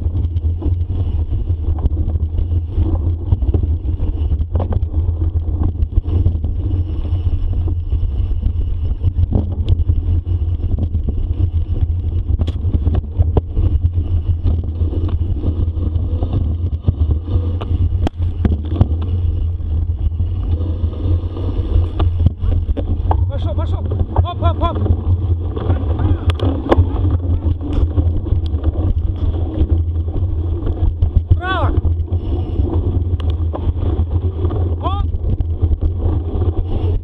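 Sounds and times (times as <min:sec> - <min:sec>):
bicycle clicks and rattles: 0:00.0 - 0:37.0
wind buffeting microphone: 0:00.0 - 0:37.0.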